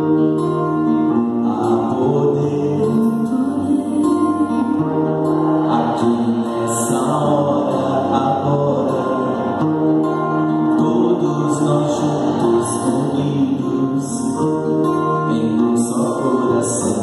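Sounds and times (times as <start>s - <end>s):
band playing slow worship song: 0.0s - 17.0s.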